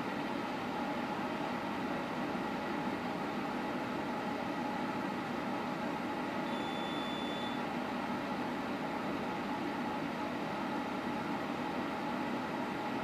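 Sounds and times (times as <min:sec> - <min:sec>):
space heater fan whirring: 0:00.0 - 0:13.0.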